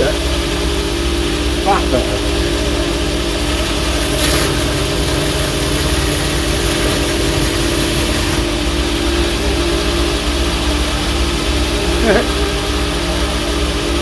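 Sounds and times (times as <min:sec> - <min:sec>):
abrasive hissing on metal: 0:00.0 - 0:14.0
power grinder motor hum: 0:00.0 - 0:14.0.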